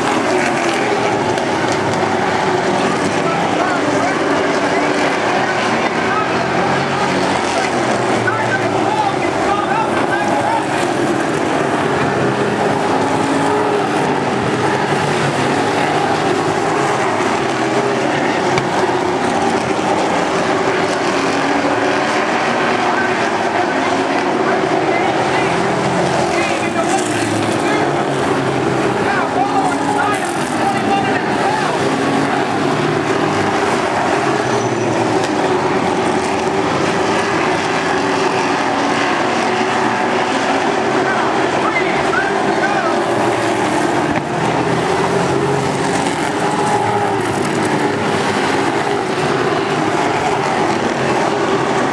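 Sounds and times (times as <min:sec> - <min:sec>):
race truck engines running: 0:00.0 - 0:51.9.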